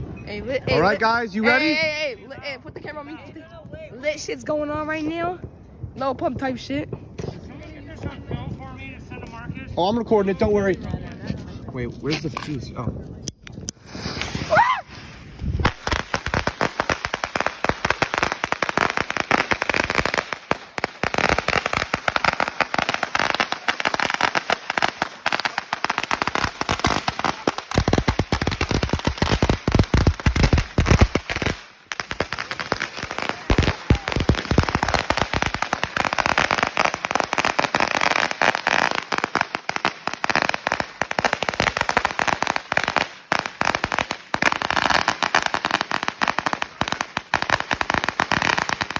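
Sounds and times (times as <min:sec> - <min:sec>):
firecracker roll crackling: 0:00.0 - 0:48.9.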